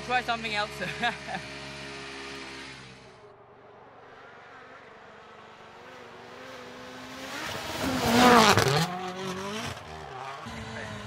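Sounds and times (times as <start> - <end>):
rally car passing at speed: 1.3 - 11.0.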